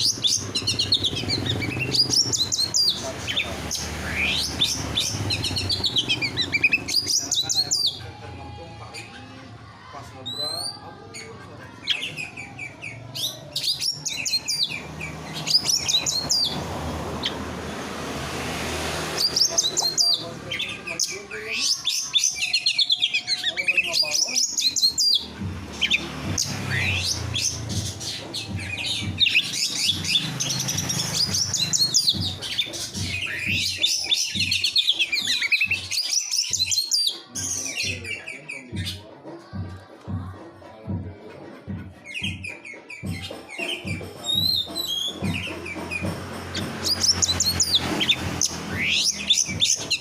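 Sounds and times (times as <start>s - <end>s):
songbirds chirping and trilling: 0.0s - 50.0s.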